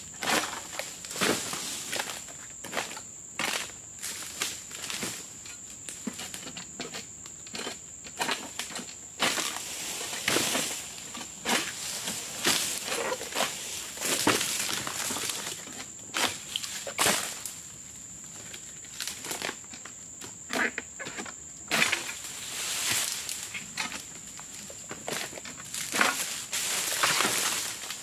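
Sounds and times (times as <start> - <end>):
palm fronds rustling and crunching: 0.2 - 6.7, 7.5 - 28.0.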